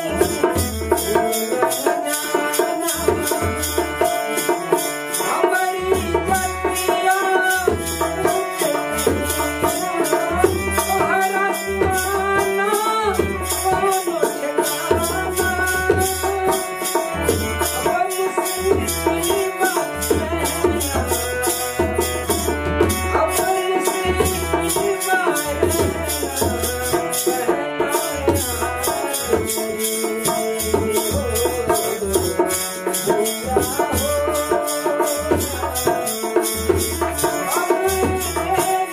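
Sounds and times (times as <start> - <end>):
dholak drum beat: 0.0 - 38.9
harmonium melody: 0.0 - 38.9.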